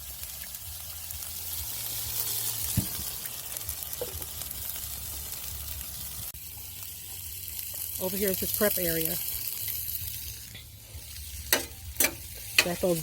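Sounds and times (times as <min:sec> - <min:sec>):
food sizzling on griddle: 0:00.0 - 0:13.0.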